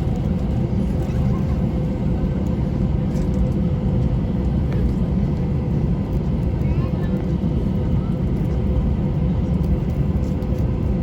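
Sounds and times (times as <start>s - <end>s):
jet airliner cabin drone: 0.0s - 11.0s.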